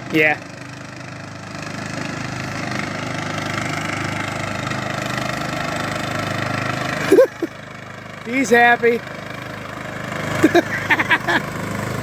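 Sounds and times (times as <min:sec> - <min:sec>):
lawnmower engine running: 0:00.0 - 0:12.0.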